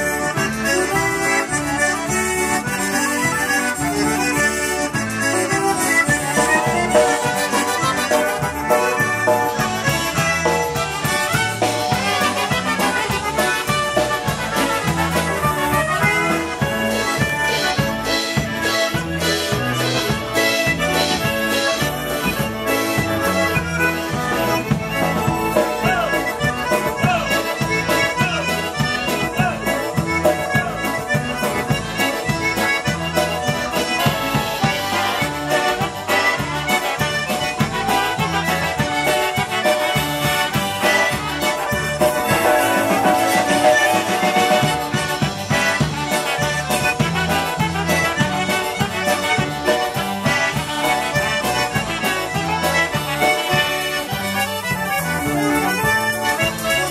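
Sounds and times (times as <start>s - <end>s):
accordion and concertina tune: 0.0s - 56.9s
bass and drums beat: 0.0s - 56.9s.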